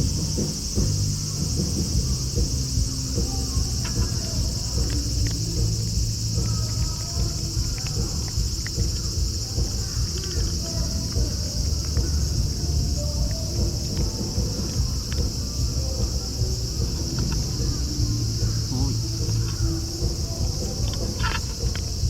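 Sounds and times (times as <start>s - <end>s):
constant low rumble: 0.0s - 22.0s
insects chirping: 0.0s - 22.0s.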